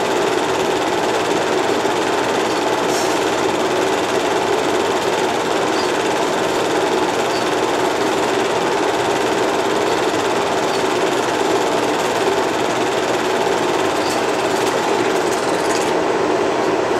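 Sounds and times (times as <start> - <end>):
film projector whirring: 0.0 - 16.9.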